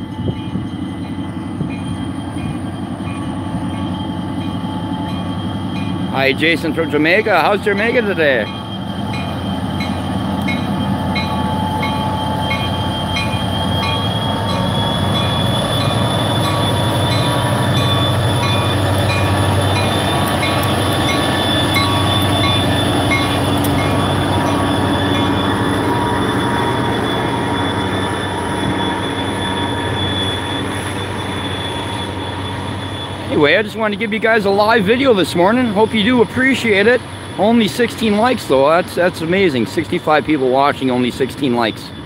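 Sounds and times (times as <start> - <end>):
freight cars wheel squeal: 0.0 - 33.8
crossing bell ringing: 0.0 - 42.0
diesel locomotive rumbling: 0.0 - 42.0.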